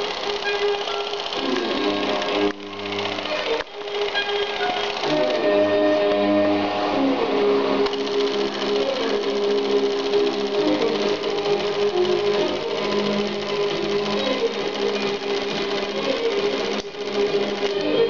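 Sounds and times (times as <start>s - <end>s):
film projector clattering: 0.0s - 6.6s, 7.2s - 18.0s
music: 0.0s - 18.0s.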